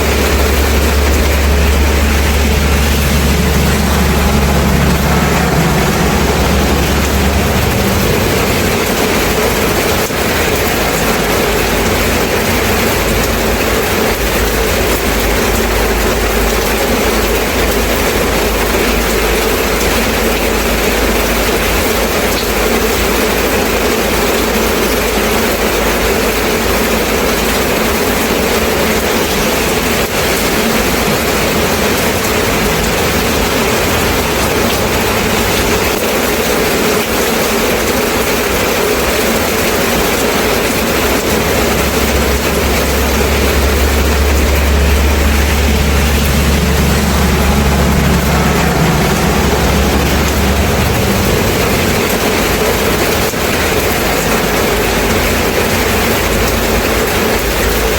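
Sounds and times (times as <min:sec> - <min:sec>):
deep low rumble: 0:00.0 - 0:22.0, 0:27.2 - 0:38.1, 0:39.9 - 0:57.9
rain falling: 0:00.0 - 0:57.9.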